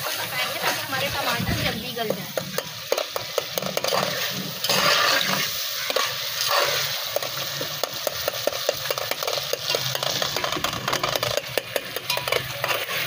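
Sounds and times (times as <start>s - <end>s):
sauce sizzling in a pot: 0.0s - 13.0s
metal spatula scraping a pot: 2.5s - 13.0s.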